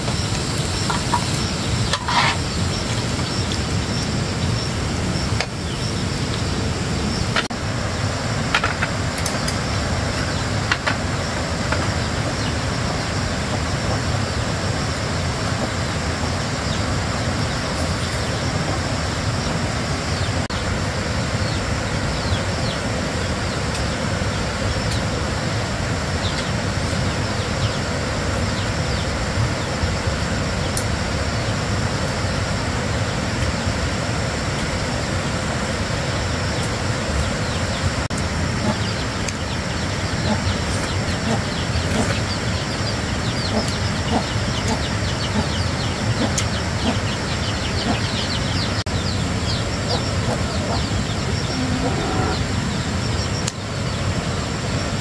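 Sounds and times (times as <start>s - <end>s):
birds chirping: 0.0s - 55.0s
steady rushing noise: 0.0s - 55.0s.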